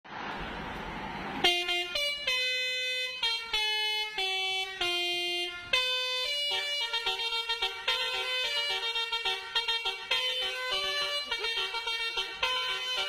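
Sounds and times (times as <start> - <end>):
musical bus horn playing tune: 1.4 - 13.0.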